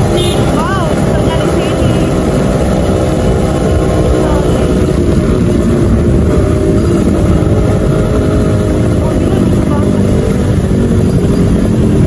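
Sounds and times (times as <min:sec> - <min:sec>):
motorcycle exhaust at low speed: 0:00.0 - 0:12.0.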